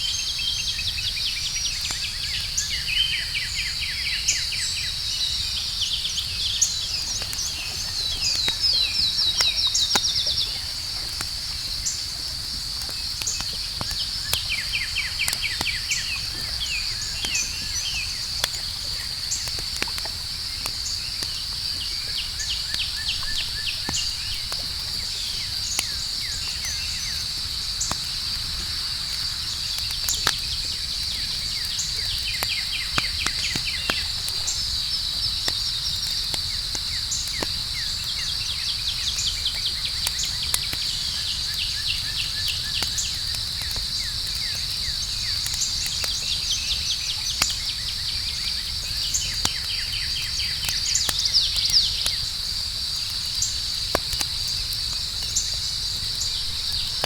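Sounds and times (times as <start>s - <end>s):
night insects chirring: 0.0s - 57.0s
campfire crackling and popping: 0.2s - 3.3s, 4.3s - 57.0s.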